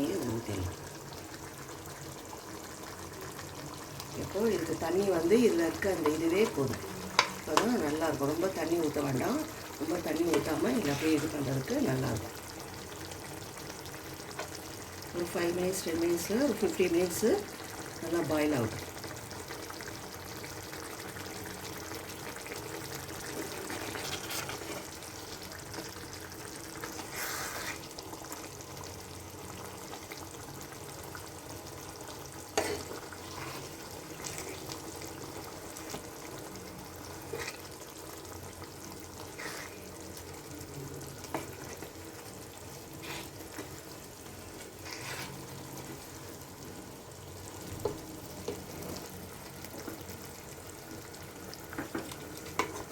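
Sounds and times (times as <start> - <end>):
gravy frying hiss: 0.0 - 52.9.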